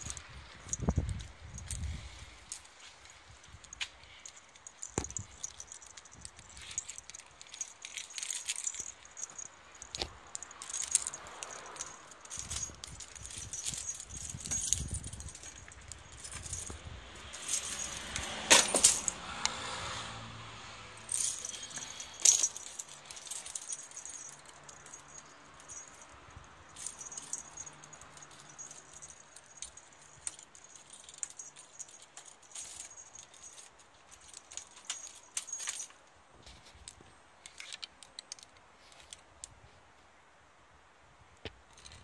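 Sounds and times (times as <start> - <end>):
handling rattling and jangling: 0.0 - 20.0, 20.9 - 39.3, 41.6 - 42.0.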